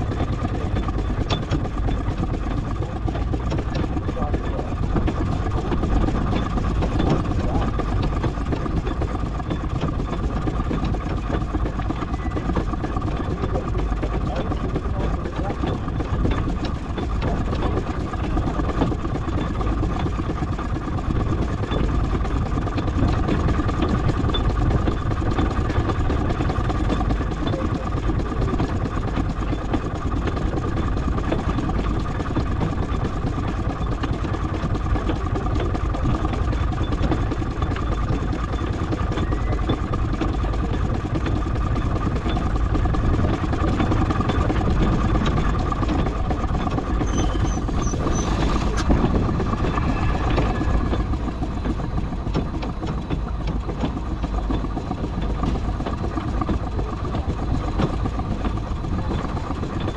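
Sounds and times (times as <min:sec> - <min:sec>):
steam engine mechanical clatter: 0:00.0 - 0:59.9.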